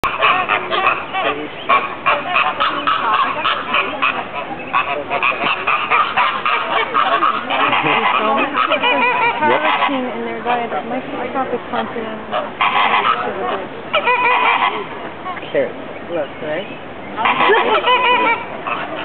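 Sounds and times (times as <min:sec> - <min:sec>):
flamingos honking: 0:00.0 - 0:19.0.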